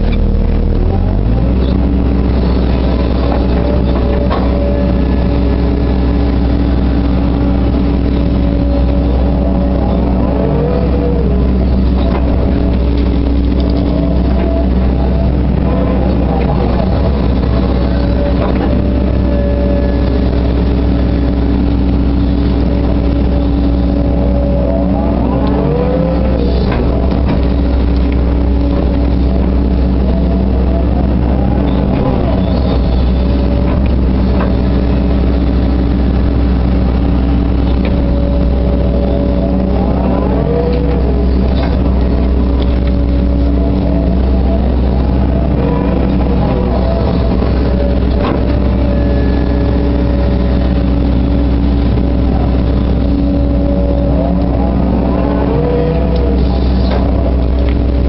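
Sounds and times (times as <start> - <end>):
diesel engine running: 0.0 - 58.0
hydraulic whine: 0.0 - 58.0.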